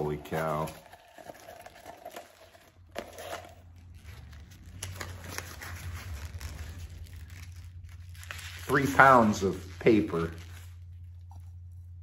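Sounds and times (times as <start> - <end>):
low steady hum: 0.0 - 12.0
paper crinkling and rustling: 0.0 - 12.0.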